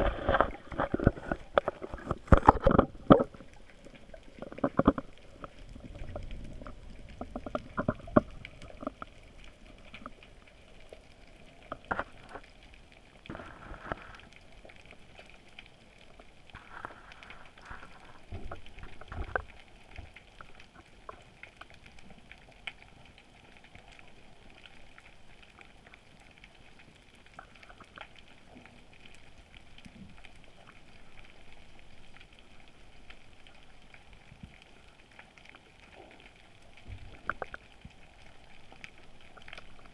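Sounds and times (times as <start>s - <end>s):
faint scattered clicks: 0.1s - 39.9s.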